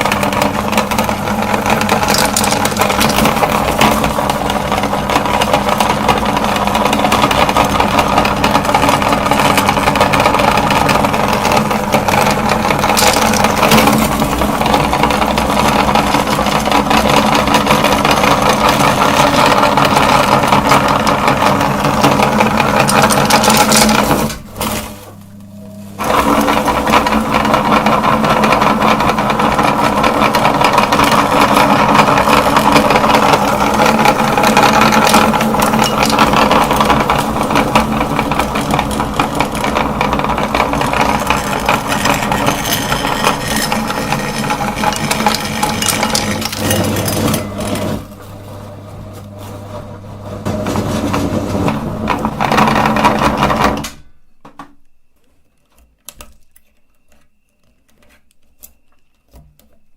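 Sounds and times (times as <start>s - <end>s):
meat grinder motor hum: 0.0s - 53.9s
candy crunching in grinder: 0.0s - 54.0s.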